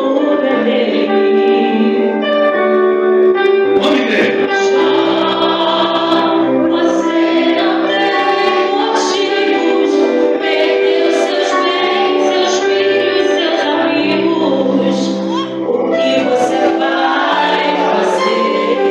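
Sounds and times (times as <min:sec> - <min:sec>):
women singing worship song: 0:00.0 - 0:02.4, 0:04.5 - 0:18.9
instrumental backing: 0:00.1 - 0:18.9.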